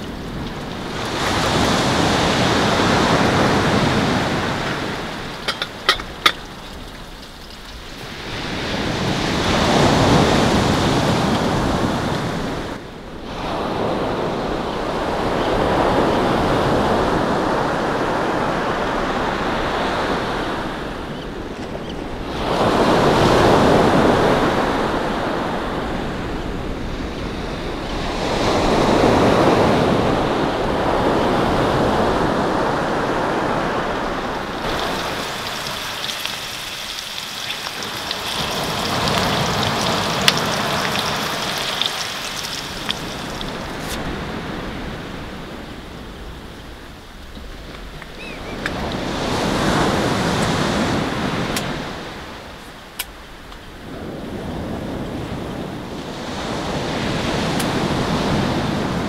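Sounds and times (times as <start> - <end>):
surf on a pebble beach: 0.0 - 59.0.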